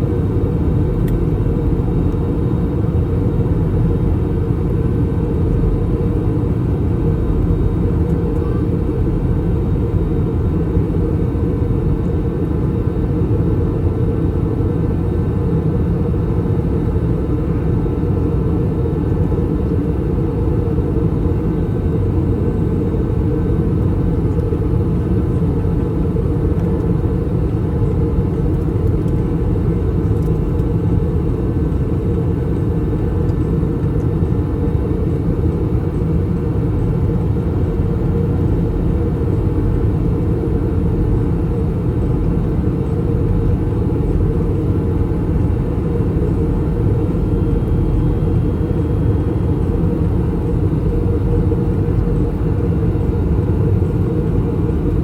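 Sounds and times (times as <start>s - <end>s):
airliner cabin engine rumble: 0.0s - 55.0s
faint steady hum: 0.0s - 55.0s.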